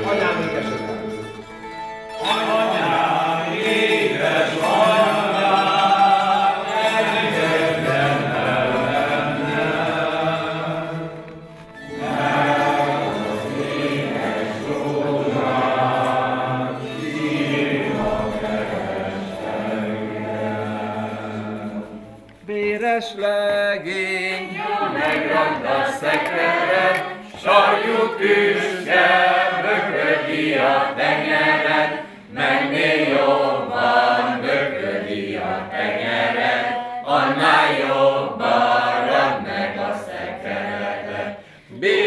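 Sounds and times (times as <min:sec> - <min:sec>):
group singing a folk song: 0:02.1 - 0:42.0.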